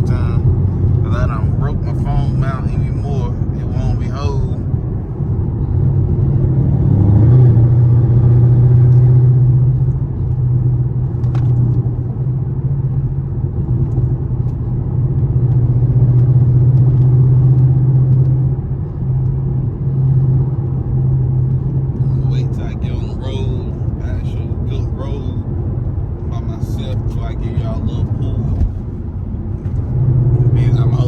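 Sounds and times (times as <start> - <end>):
engine and exhaust droning: 0.0 - 31.0
road rumble: 0.0 - 31.0.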